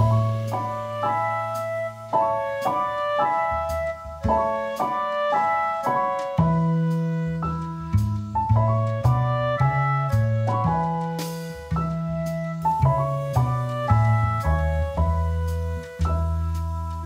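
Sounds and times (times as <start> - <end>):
background music melody over bass: 0.0 - 17.0.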